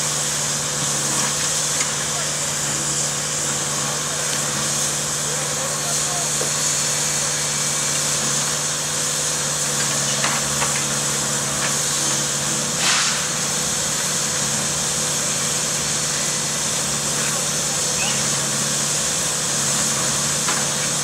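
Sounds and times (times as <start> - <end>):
burst of hiss: 1.1 - 21.0.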